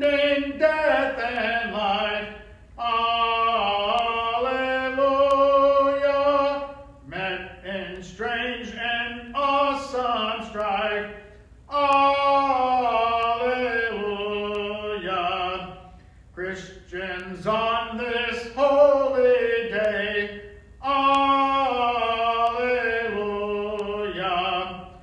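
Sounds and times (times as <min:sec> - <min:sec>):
unaccompanied hymn singing: 0:00.0 - 0:25.0.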